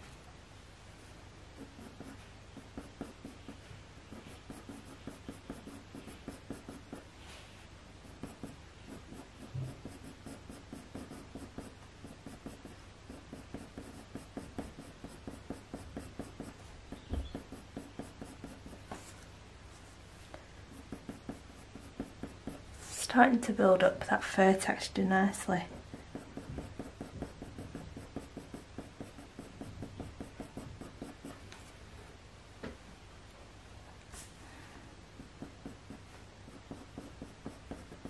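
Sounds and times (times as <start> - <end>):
pencil scratching on paper: 1.0 - 31.8, 35.1 - 38.0.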